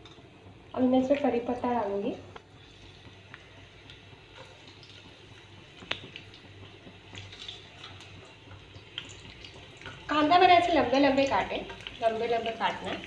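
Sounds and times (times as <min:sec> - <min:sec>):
leaves sizzling in hot oil: 0:00.0 - 0:13.0
small crackles: 0:02.2 - 0:13.0.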